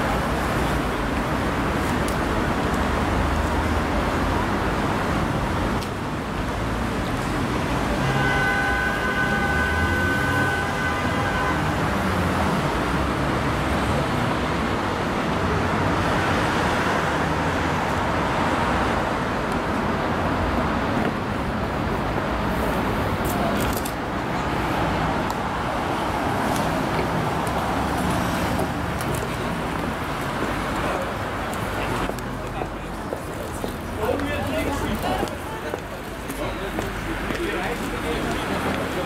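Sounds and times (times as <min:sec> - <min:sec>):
cars passing on busy street: 0:00.0 - 0:39.0.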